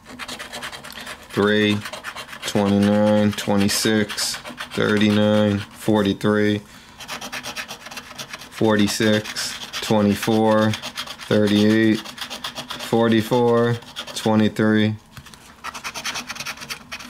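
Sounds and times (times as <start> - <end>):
lottery ticket being scratched: 0.0 - 6.2, 7.0 - 14.6, 15.6 - 17.0.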